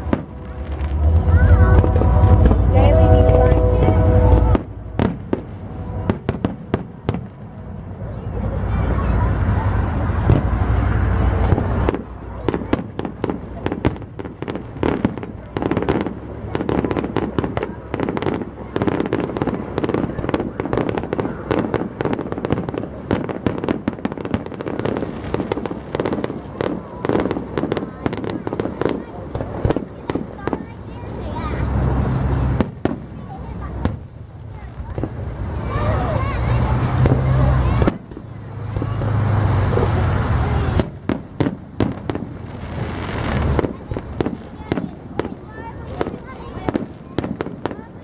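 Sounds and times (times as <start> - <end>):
continuous rumble: 0.0 - 48.0
fireworks bangs and crackles: 0.0 - 48.0.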